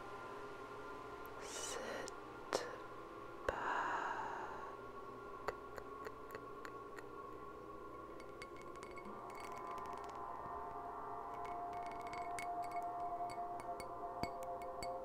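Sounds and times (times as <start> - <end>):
ambient synth drone: 0.0 - 15.0.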